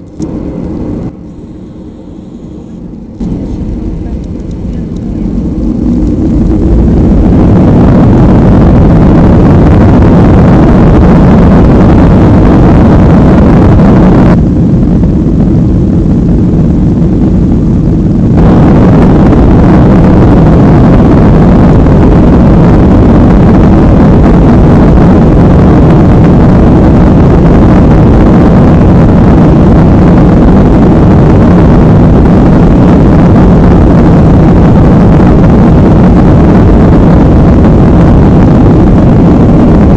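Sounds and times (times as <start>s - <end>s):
jet engine noise inside cabin: 0.0s - 39.9s.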